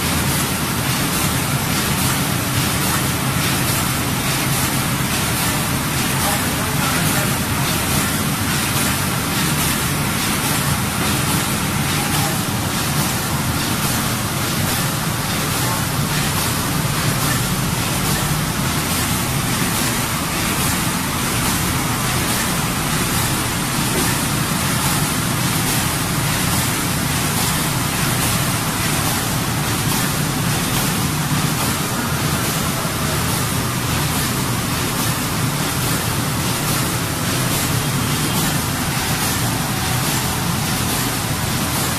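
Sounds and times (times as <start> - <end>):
machine mechanical clatter: 0.0 - 41.9.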